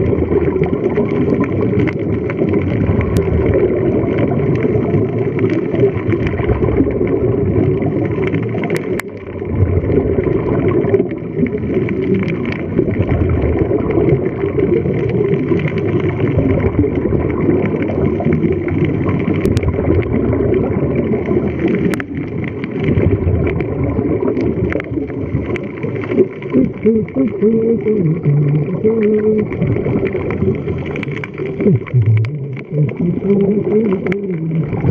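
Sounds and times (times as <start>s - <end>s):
muffled underwater rumble: 0.0s - 34.9s
regulator bubbles: 0.0s - 34.9s.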